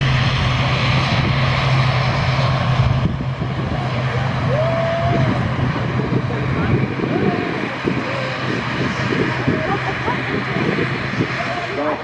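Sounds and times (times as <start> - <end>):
aircraft engines droning: 0.0 - 12.0.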